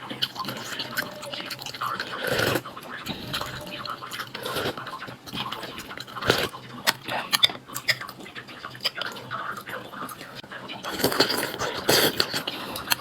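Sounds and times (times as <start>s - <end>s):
person chewing with wet clicks: 0.0s - 13.0s.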